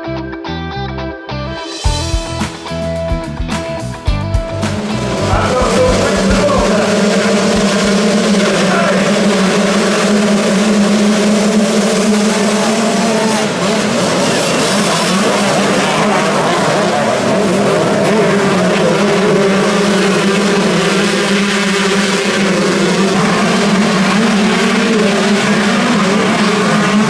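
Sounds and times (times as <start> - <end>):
motorcycle engines revving: 4.4 - 27.0.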